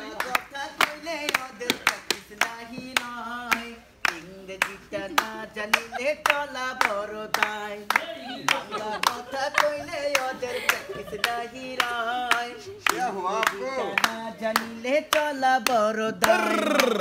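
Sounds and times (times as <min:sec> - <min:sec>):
hands clapping in a steady beat: 0:00.0 - 0:17.0
person singing: 0:00.0 - 0:17.0.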